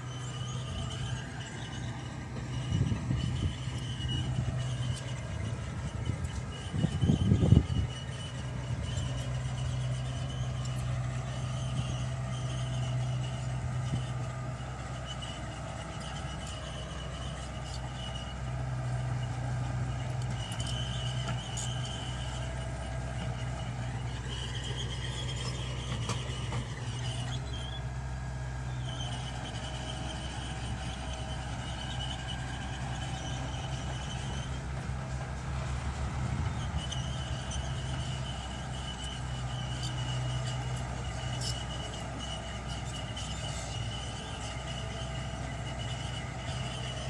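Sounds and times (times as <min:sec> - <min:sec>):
bulldozer diesel engine running: 0:00.0 - 0:47.0
thin high whining tones: 0:00.0 - 0:47.0.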